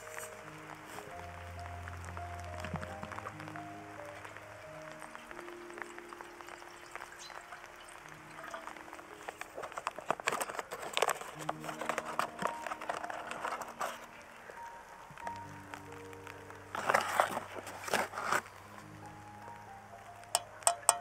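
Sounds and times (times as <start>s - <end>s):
foil pouch crackling: 0.0s - 21.0s
soft background music: 0.0s - 21.0s.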